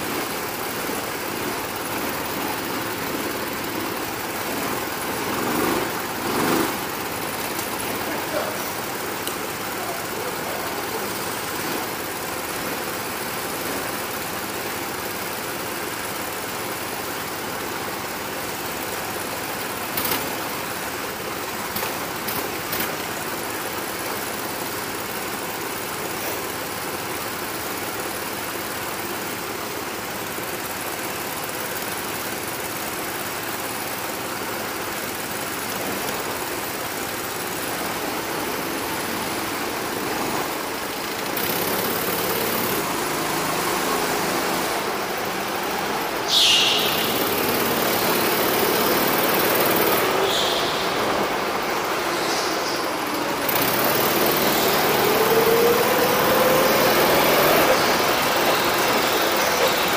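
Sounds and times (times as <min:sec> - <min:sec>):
go-kart engines droning: 0:00.0 - 0:59.9.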